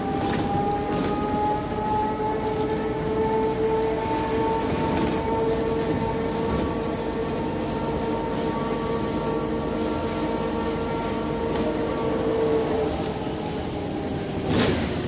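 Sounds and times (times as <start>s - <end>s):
road and body noise: 0.0s - 15.0s
trolleybus electric drive whine: 0.0s - 15.0s.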